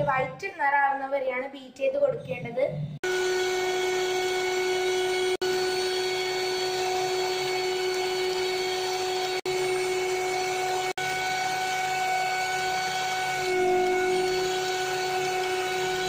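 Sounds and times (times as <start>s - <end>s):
electric hand mixer running: 3.0s - 16.0s.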